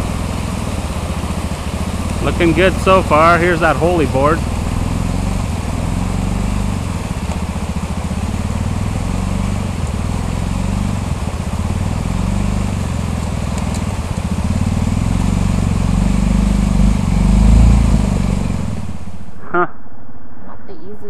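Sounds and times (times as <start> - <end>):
quad bike engine running: 0.0 - 19.2.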